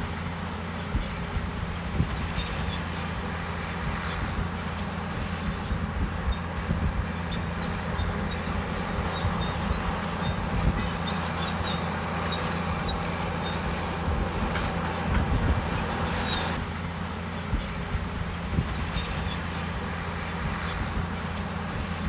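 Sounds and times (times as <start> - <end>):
bulldozer diesel engine running: 0.0 - 22.0
steel tracks clanking and squeaking: 0.1 - 22.0.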